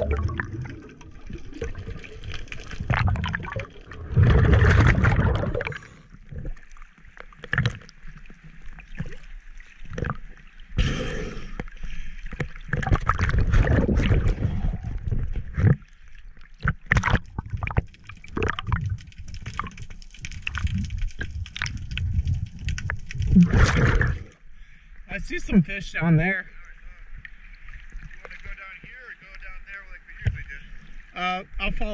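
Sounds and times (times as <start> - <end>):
water sloshing and bubbling: 0.0 - 31.9.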